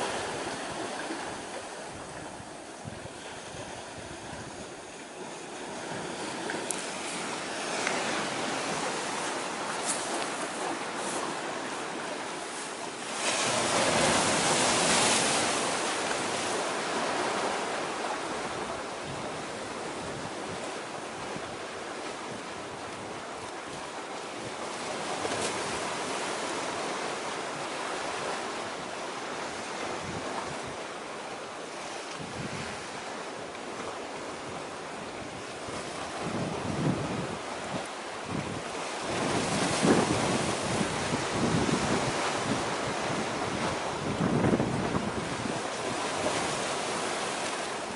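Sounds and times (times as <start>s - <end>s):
sea surf washing: 0.0s - 47.9s.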